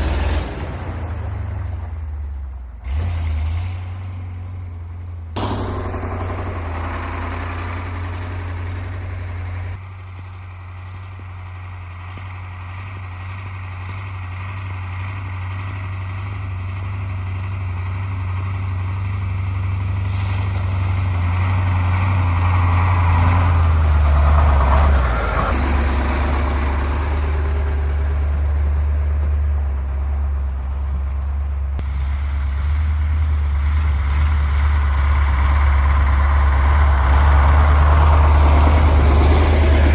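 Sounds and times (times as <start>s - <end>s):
truck diesel engine driving: 0.0s - 39.9s.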